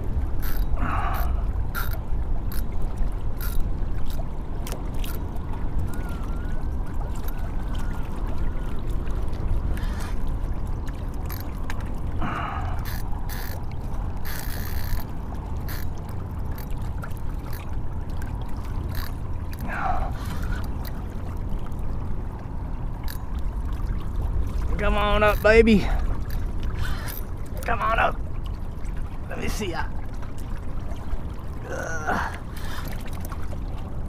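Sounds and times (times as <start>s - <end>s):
water lapping against kayak hull: 0.0s - 34.0s.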